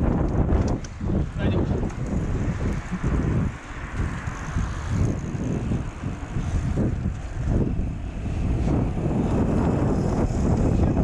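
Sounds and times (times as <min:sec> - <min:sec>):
bicycle tyres rolling on asphalt: 0:00.0 - 0:11.0
wind buffeting microphone: 0:00.0 - 0:11.0.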